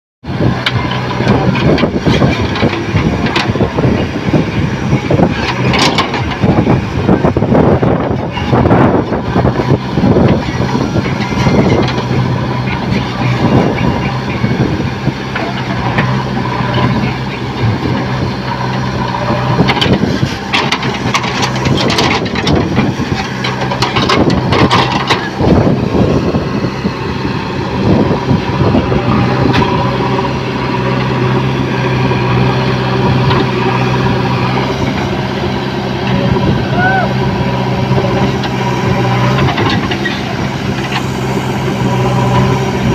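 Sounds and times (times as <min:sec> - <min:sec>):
diesel engine running under load: 0:00.2 - 0:42.9.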